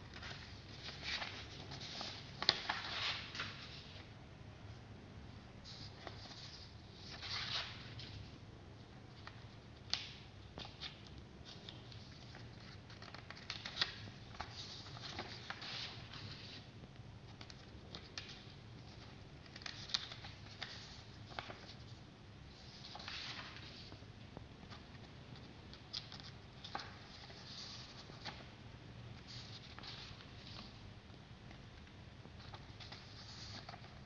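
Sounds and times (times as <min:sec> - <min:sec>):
paper rustling and crinkling: 0:00.0 - 0:04.1, 0:05.6 - 0:08.3, 0:09.1 - 0:16.7, 0:17.3 - 0:24.0, 0:24.6 - 0:28.5, 0:29.2 - 0:30.8, 0:32.4 - 0:34.0.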